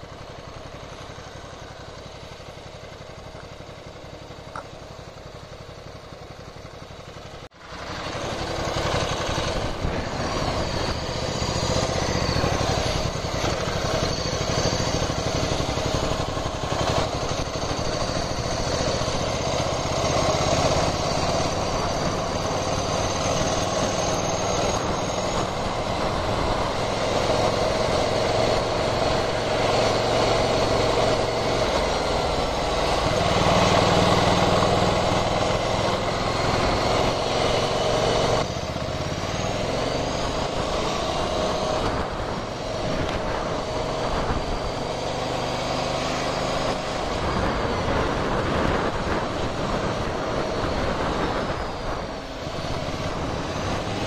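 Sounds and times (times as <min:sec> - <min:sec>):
motorcycle engine running: 0:00.0 - 0:54.0
wind rushing over microphone: 0:08.6 - 0:54.0.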